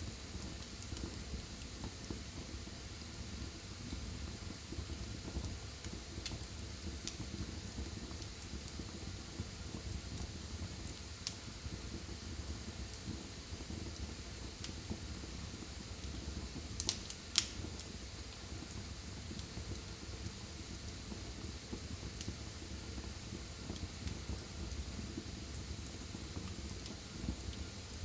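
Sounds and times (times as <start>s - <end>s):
fire crackling and popping: 0.0s - 28.0s
fire flames rumbling: 0.1s - 28.0s.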